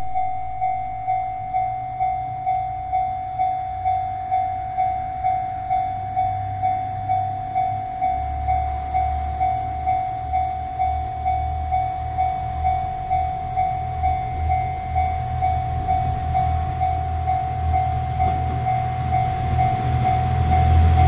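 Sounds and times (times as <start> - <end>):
level crossing bell ringing: 0.0 - 21.0
low rumble: 0.0 - 21.0.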